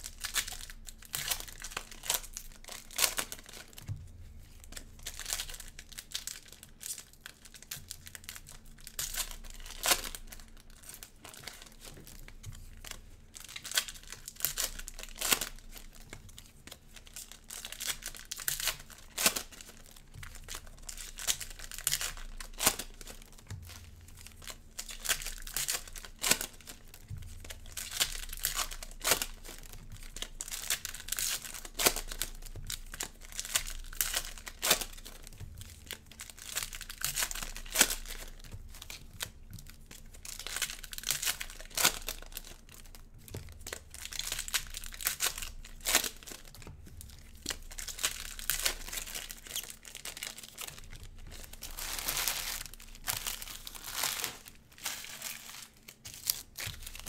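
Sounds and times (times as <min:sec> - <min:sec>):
cellophane crinkling and tearing: 0:00.0 - 0:57.0.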